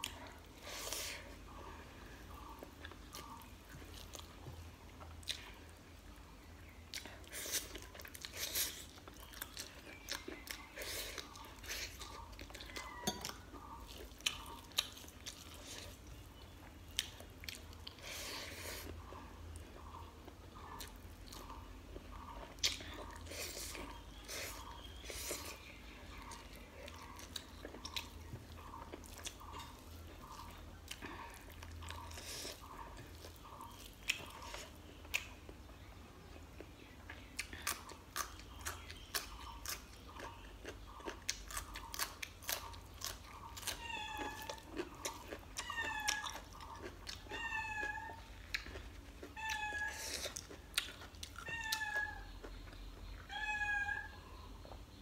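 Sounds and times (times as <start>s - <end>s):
person chewing food: 0.0s - 5.8s, 6.6s - 53.3s.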